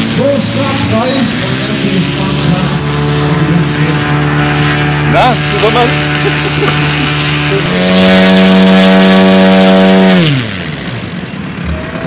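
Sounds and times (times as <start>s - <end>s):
model plane engine revving: 0.0s - 12.0s.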